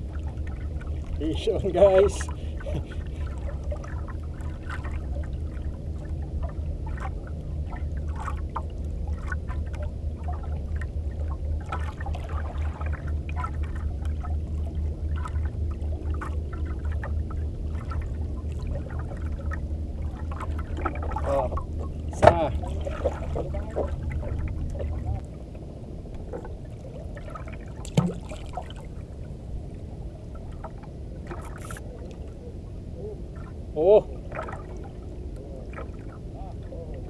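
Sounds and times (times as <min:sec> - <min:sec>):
water slapping against a boat hull: 0:00.0 - 0:25.2, 0:26.1 - 0:29.0, 0:30.3 - 0:32.3, 0:33.3 - 0:37.0
low rumble: 0:00.0 - 0:37.0.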